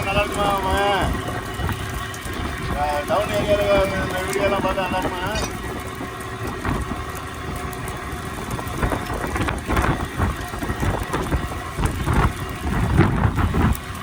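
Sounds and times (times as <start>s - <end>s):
boat engine hum: 0.0s - 14.0s
wind buffeting microphone: 0.0s - 14.0s.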